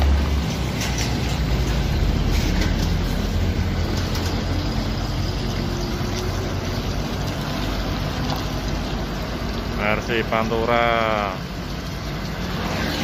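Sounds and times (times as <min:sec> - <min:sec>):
diesel truck engines running: 0:00.0 - 0:12.5.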